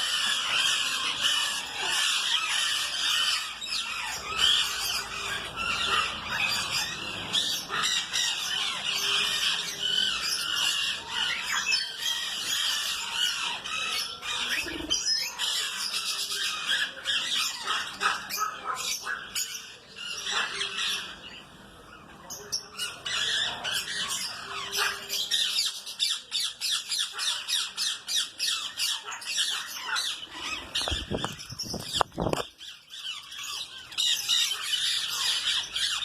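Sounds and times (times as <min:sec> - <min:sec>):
birds chirping and squawking: 0:00.0 - 0:36.0.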